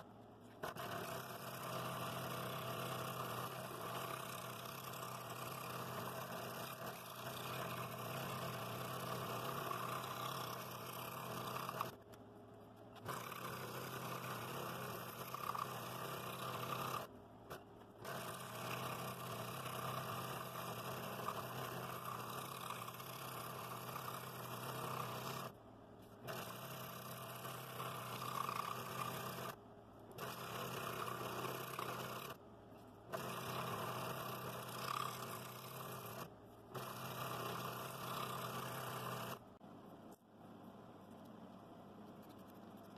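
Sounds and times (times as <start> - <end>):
scroll saw cutting wood: 0.0 - 12.0, 12.9 - 32.4, 33.1 - 39.4.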